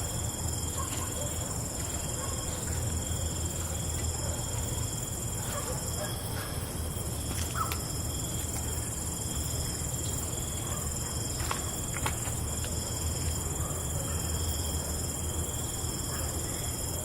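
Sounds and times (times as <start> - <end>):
crickets calling: 0.0 - 17.0.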